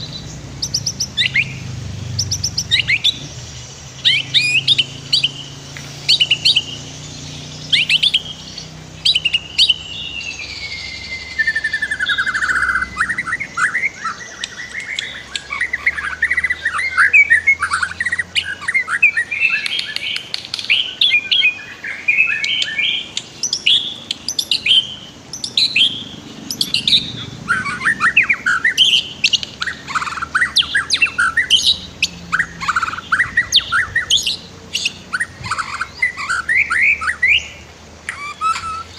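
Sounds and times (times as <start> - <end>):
bird singing whistled trills: 0.0 - 38.9.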